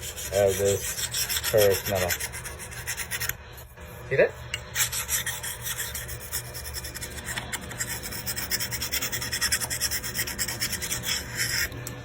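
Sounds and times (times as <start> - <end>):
honing stone rasping on blade: 0.0 - 3.4, 4.8 - 11.7.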